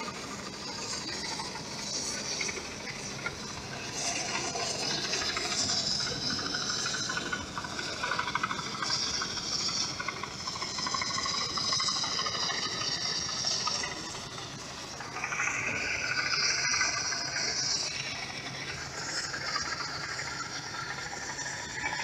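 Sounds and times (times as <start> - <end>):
combine harvester engine: 0.0 - 22.0
fast rattle of tracks: 0.0 - 22.0.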